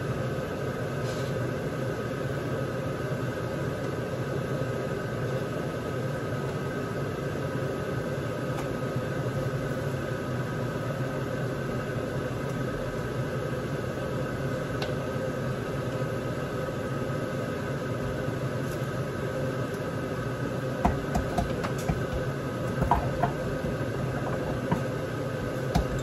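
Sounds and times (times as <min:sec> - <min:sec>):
small fan motor humming: 0:01.6 - 0:26.0.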